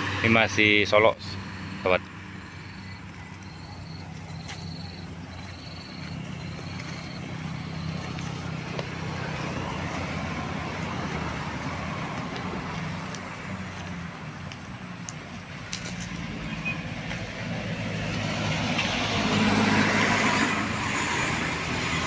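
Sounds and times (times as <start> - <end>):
passing traffic road noise: 0.0 - 22.0
vehicle engine running: 0.0 - 22.0.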